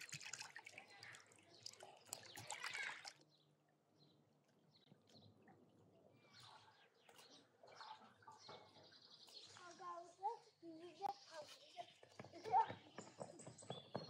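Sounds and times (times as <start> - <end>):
faint bird chirps: 1.0 - 14.0.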